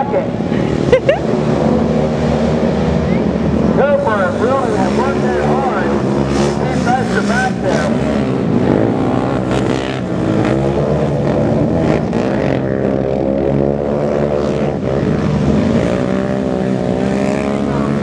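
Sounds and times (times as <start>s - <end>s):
racing engines revving: 0.0s - 18.0s.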